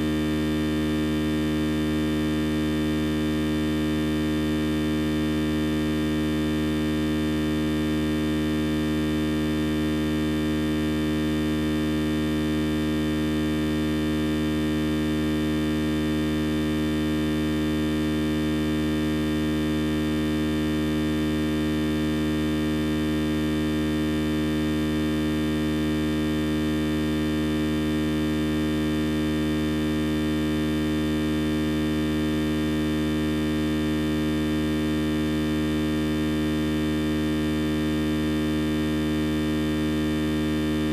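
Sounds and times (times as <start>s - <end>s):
loud steady low hum: 0.0s - 40.9s.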